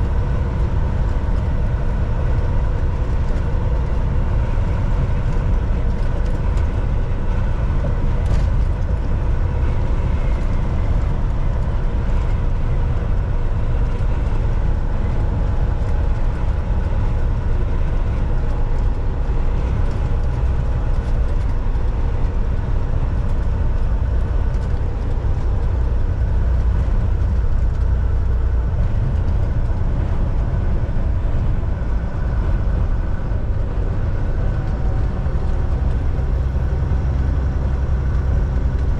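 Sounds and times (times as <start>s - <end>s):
truck engine drone: 0.0s - 38.9s
tyre rumble on road: 0.0s - 38.9s.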